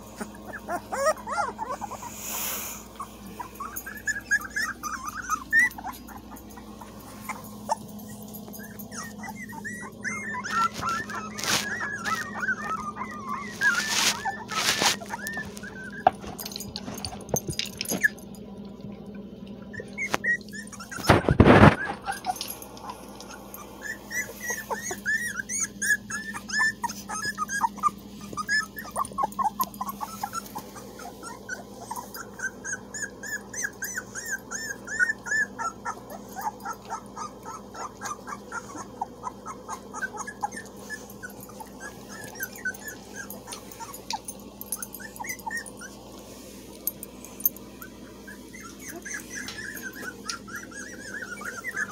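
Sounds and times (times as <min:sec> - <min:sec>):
puppies yipping and whimpering: 0:00.0 - 0:18.4, 0:19.6 - 0:51.9.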